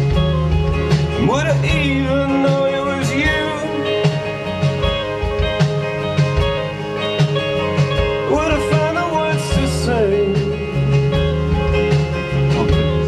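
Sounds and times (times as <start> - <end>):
band song with drums: 0.0 - 13.0
gliding melodic line: 0.0 - 13.0.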